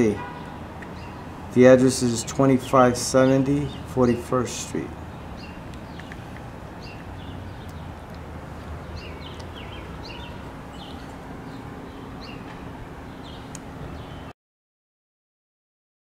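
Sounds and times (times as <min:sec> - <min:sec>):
small birds chirping: 0:00.0 - 0:14.3
street ambience rumble: 0:00.0 - 0:14.3.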